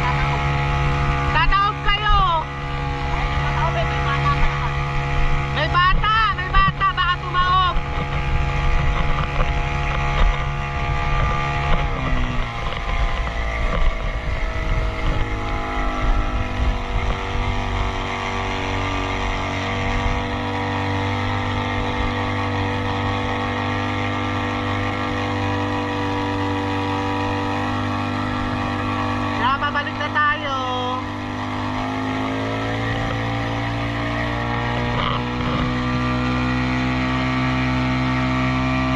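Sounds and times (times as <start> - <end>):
motorboat engine drone: 0.0 - 38.9.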